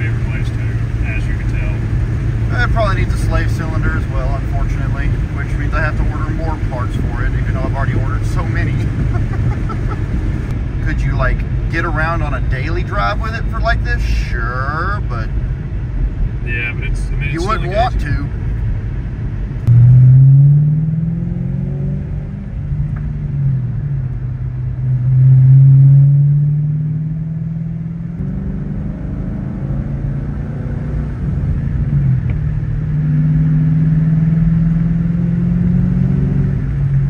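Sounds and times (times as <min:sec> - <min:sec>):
car engine accelerating and shifting: 0:00.0 - 0:37.0.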